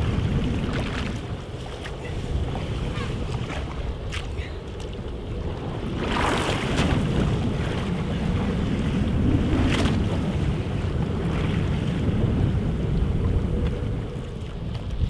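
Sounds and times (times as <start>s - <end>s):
water along boat hull: 0.0s - 15.0s
wind buffeting microphone: 0.0s - 15.0s.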